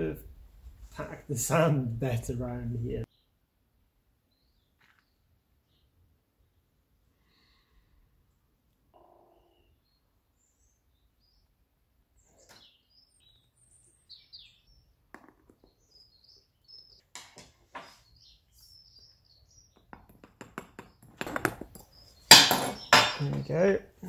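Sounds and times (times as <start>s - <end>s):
small birds chirping: 2.9s - 3.4s, 4.2s - 24.0s.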